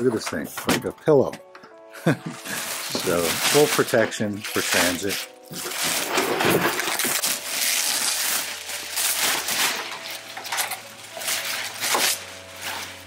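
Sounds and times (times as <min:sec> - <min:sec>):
plastic bag rustling and crinkling: 0:02.0 - 0:13.0.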